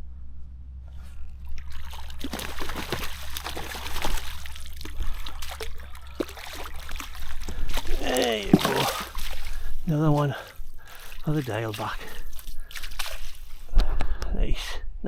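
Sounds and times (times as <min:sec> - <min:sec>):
fish splashing in water: 0:01.3 - 0:13.7.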